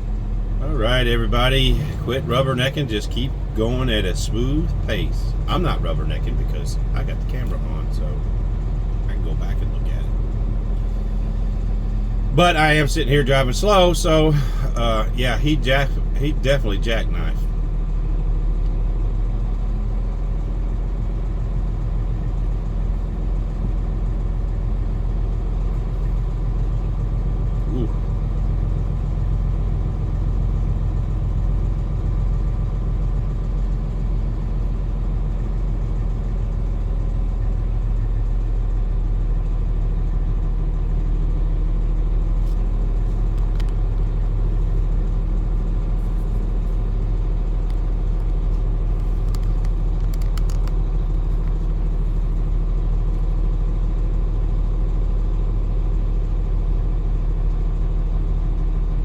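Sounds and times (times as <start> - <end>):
truck engine drone: 0.0 - 59.0.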